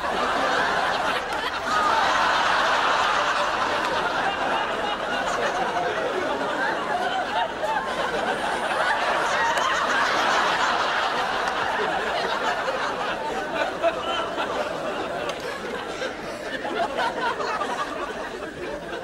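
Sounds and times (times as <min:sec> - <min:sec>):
audience laughing: 0:00.0 - 0:19.0.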